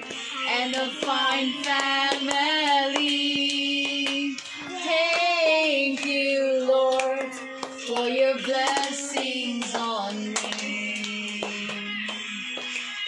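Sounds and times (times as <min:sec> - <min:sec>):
children and women singing gospel: 0:00.0 - 0:12.7
hands clapping: 0:00.0 - 0:13.0.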